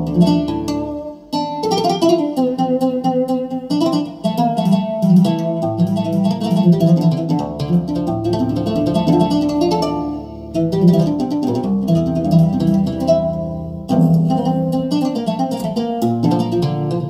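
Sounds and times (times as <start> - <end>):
keyboard plucked-string melody: 0.0 - 17.0.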